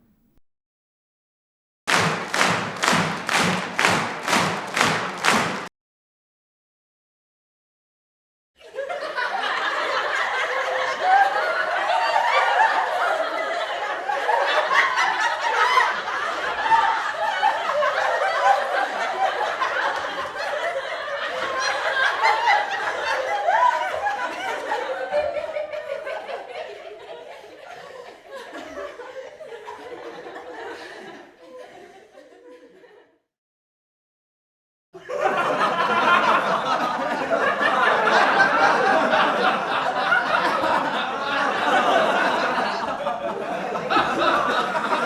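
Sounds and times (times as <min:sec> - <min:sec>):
crowd laughing: 0:01.9 - 0:05.7, 0:08.6 - 0:33.2, 0:35.0 - 0:45.0.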